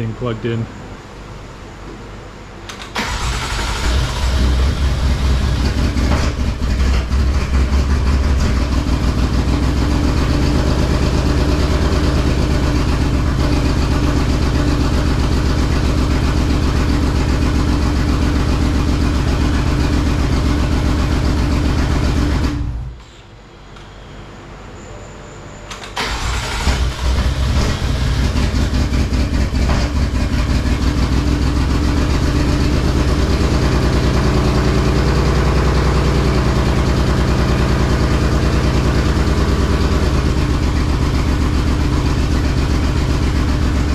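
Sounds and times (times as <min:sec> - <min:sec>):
car engine running: 0:03.0 - 0:23.0, 0:26.0 - 0:43.9.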